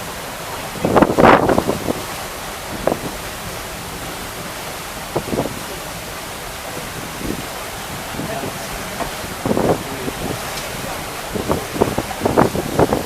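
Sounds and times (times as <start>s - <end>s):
rush of wind and water: 0.0s - 13.0s
wind buffeting microphone: 0.0s - 13.0s.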